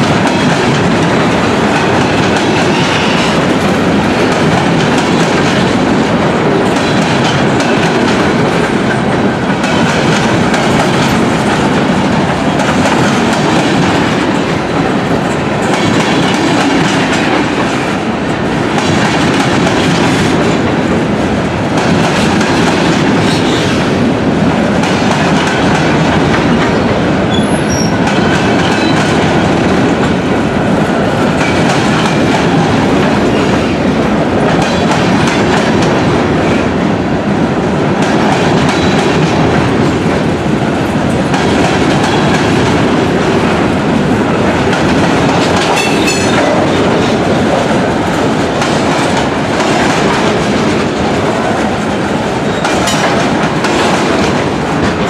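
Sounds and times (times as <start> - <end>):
wheels clickety-clack: 0.0 - 24.0, 24.7 - 36.6, 38.0 - 55.0
freight train rumbling: 0.0 - 55.0.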